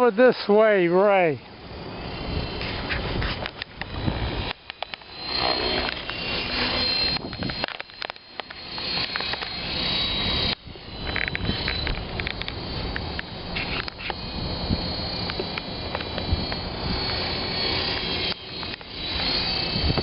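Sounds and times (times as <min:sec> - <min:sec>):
rc helicopter whine: 0:00.0 - 0:20.0
wind buffeting microphone: 0:01.6 - 0:07.7, 0:08.8 - 0:20.0.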